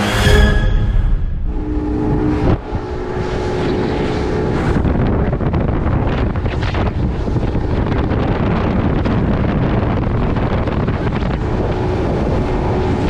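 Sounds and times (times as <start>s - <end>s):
boat engine rushing: 0.0s - 13.0s
wind buffeting microphone: 1.4s - 13.0s
water rushing along hull: 1.6s - 13.0s.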